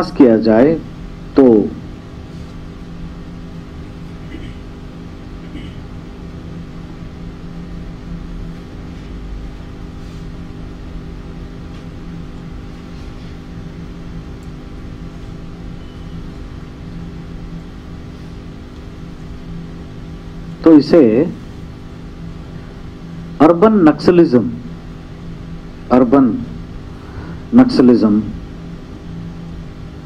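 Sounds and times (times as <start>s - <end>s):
steady room hum: 0.0s - 30.0s.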